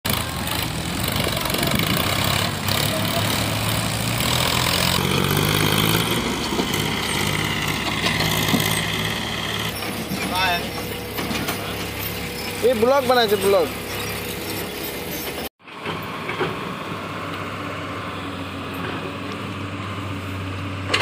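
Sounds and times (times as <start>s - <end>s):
diesel tractor engines running: 0.0s - 21.0s.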